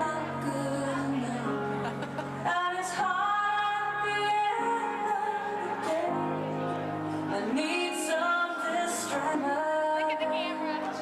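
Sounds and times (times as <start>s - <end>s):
woman singing: 0.0s - 6.5s, 7.2s - 11.0s
instrumental backing music: 0.0s - 11.0s.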